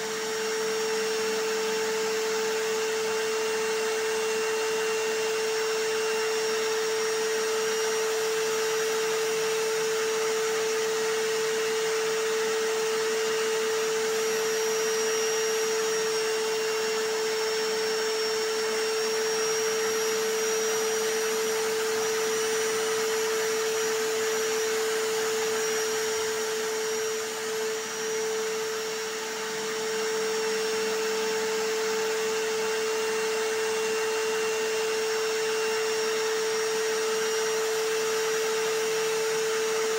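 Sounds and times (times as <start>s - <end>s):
hammer drill running: 0.0s - 39.9s
vacuum cleaner: 0.0s - 39.9s.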